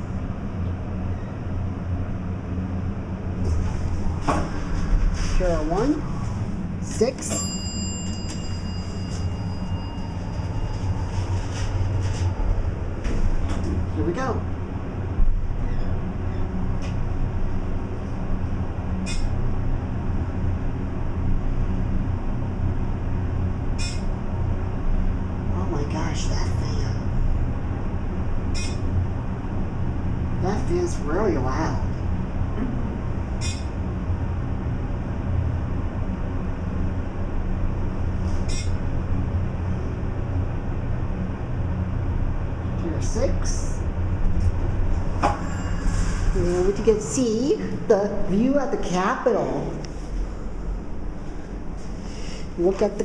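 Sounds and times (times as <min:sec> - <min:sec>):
elevator rumble and whir: 0:00.0 - 0:53.0
ventilation fan running loud: 0:00.0 - 0:53.0.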